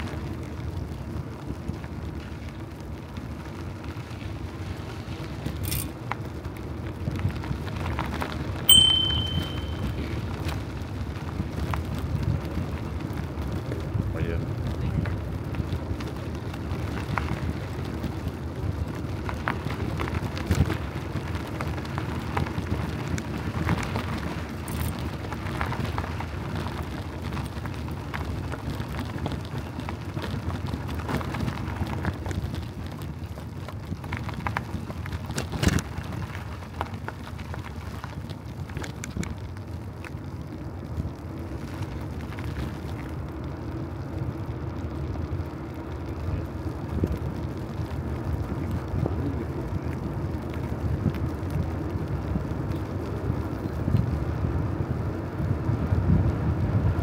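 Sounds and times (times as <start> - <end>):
wind and rolling tyres: 0.0 - 57.0.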